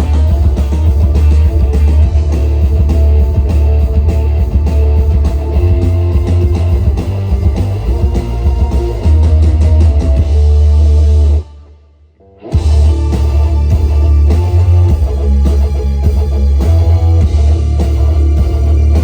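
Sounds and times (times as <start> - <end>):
rapid drum hits: 0.0 - 11.4, 12.6 - 19.0
booming bass: 0.0 - 11.5, 12.6 - 19.0
electric guitar: 0.0 - 19.0.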